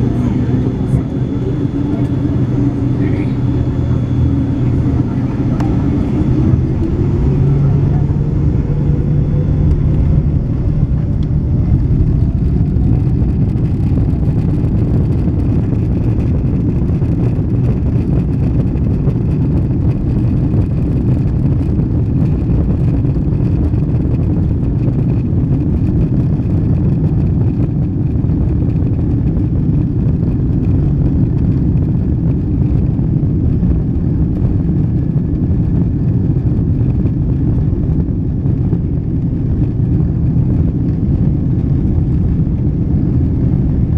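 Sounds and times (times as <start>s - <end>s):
jet engine rumble in cabin: 0.0s - 43.9s.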